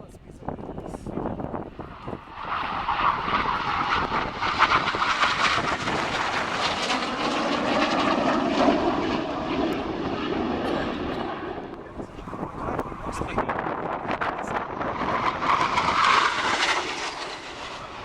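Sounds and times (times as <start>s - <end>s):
jet passing with roar: 0.8s - 18.0s.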